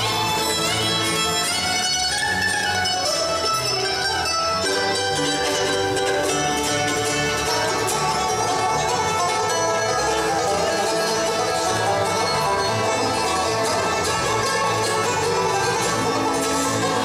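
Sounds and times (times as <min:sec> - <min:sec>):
fiddle bowing: 0:00.0 - 0:17.0
mandolin picking: 0:00.0 - 0:17.0
strummed acoustic guitars: 0:00.0 - 0:17.0.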